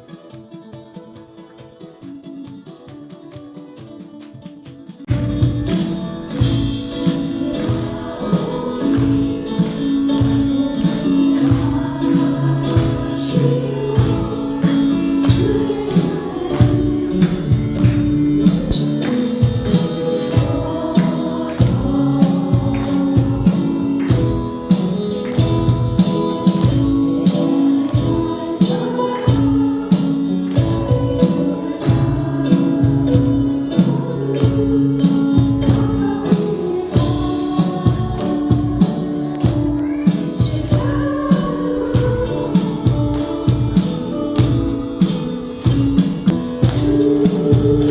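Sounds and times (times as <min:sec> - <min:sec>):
strummed beat: 0:00.0 - 0:47.9
group of voices singing: 0:05.1 - 0:47.9.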